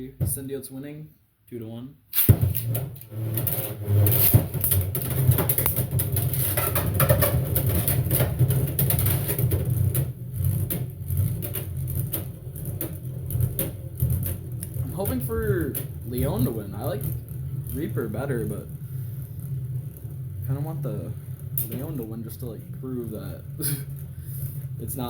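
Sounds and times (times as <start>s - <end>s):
spinning tops whirring: 2.2s - 25.0s.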